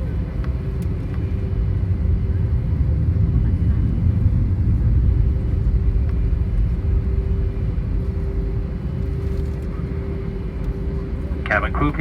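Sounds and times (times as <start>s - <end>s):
aircraft engines idling rumble: 0.0s - 12.0s
steady hum: 0.0s - 12.0s.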